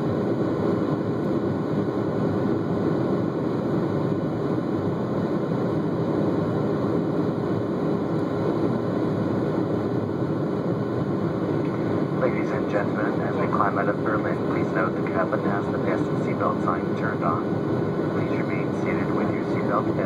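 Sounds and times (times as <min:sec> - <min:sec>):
airplane cabin engine rush: 0:00.0 - 0:20.0
faint steady hum: 0:00.0 - 0:20.0.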